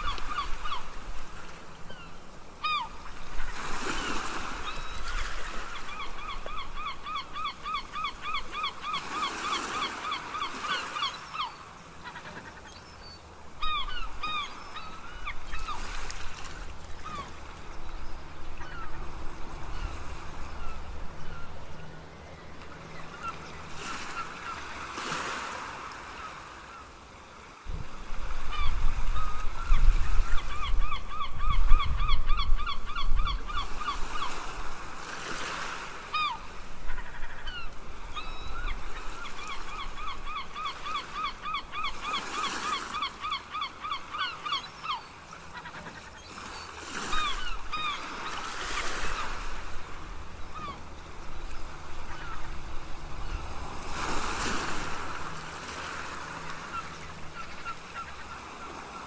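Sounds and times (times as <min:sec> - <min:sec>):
seagulls calling: 0:00.0 - 0:26.9, 0:27.8 - 0:59.0
ocean waves breaking: 0:00.0 - 0:59.0.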